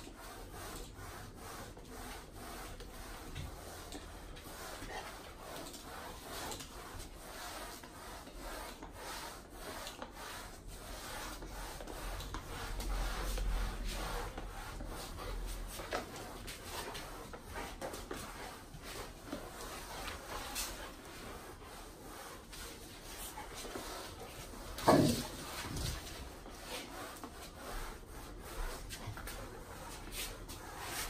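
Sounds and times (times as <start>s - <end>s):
mop scrubbing hard floor: 0.0s - 31.0s.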